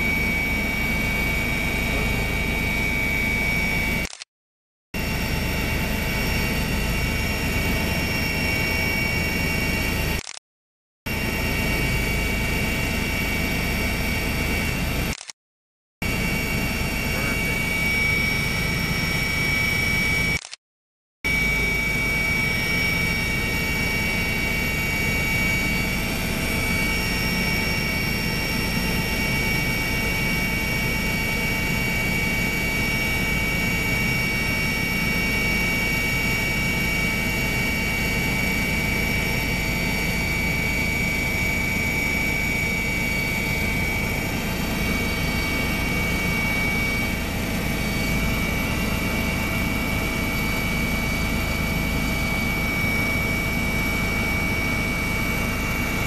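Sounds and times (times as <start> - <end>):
helicopter running in flight: 0.0 - 4.3, 5.0 - 10.4, 11.1 - 15.3, 16.0 - 20.6, 21.3 - 56.0.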